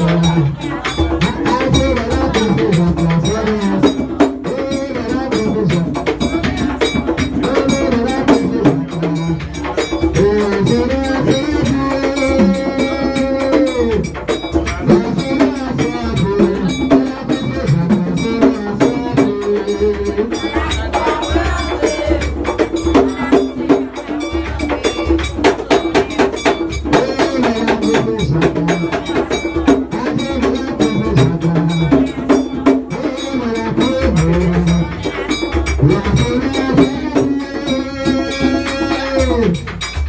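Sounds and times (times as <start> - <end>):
drums and hand percussion: 0.0 - 40.0
group of voices singing: 0.0 - 40.0.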